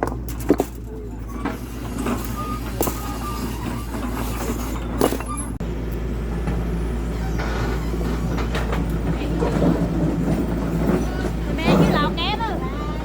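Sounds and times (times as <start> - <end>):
knocks and clatter: 0.0 - 5.6, 6.3 - 12.6
engine humming: 0.0 - 13.0.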